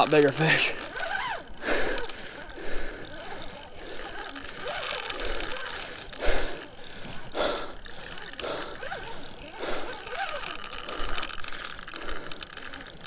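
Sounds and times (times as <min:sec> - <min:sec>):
fishing reel clicking and whirring: 0:00.0 - 0:13.0.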